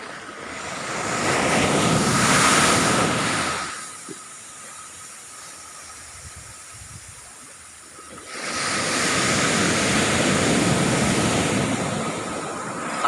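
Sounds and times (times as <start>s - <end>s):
low rumble of sea: 0.0s - 13.0s.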